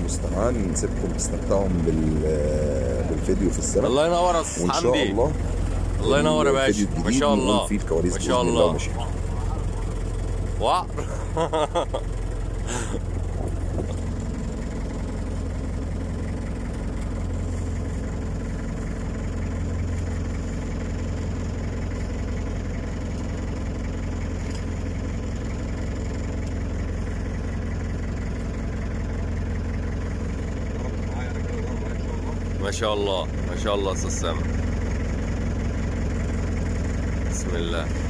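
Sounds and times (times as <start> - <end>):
boat engine idling: 0.0 - 38.0.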